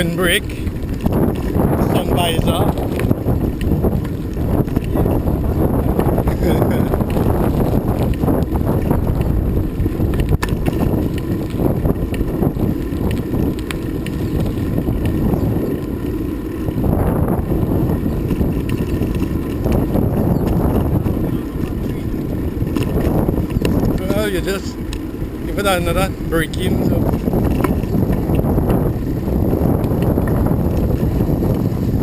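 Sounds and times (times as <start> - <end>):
wind buffeting the microphone: 0.0 - 32.0.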